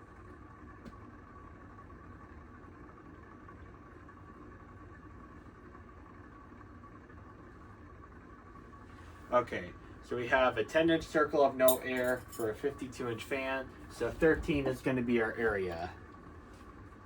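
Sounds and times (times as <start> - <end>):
ceiling fan humming with whine: 0.0 - 17.0.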